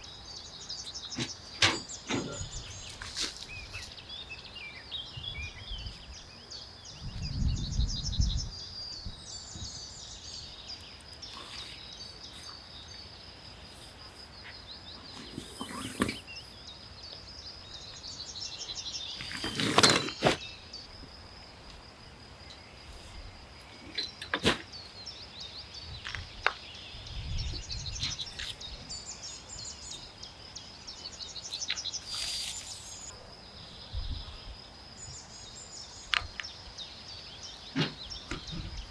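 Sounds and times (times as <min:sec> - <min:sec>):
birds chirping in trills: 0:00.0 - 0:20.9, 0:23.7 - 0:38.9.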